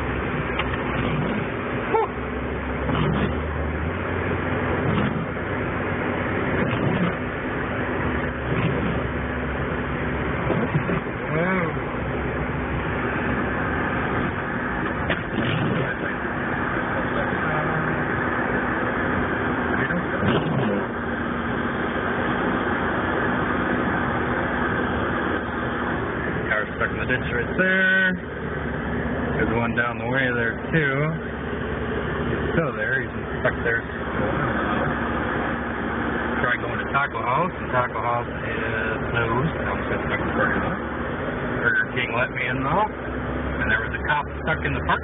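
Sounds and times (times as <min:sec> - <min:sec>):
low engine hum: 0:00.0 - 0:45.0
tyre and road noise: 0:00.0 - 0:45.0.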